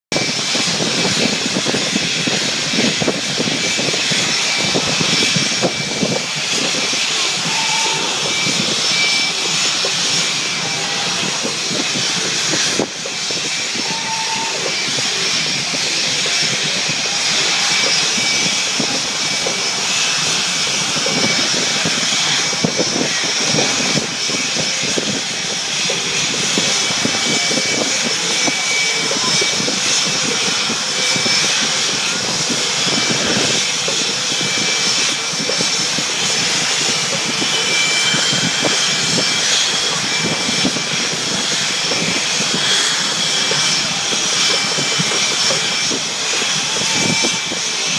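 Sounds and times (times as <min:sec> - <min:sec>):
jet engines running with high whine: 0:00.1 - 0:47.9.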